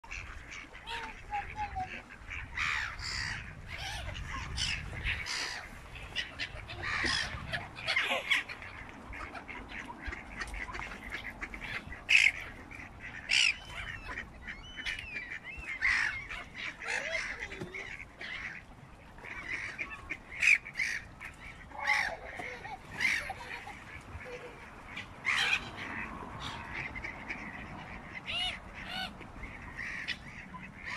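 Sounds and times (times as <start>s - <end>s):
ducks geese and gulls calling: 0.0s - 30.9s.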